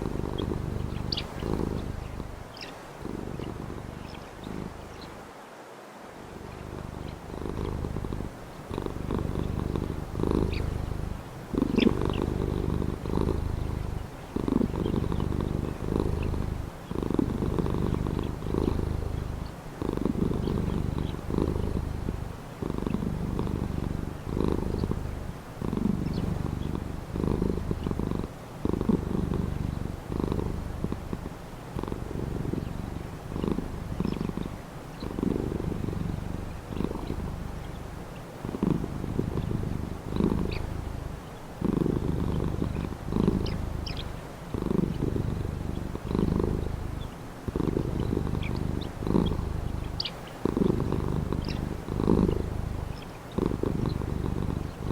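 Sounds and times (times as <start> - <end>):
cat purring: 0.0 - 5.3, 6.1 - 54.9.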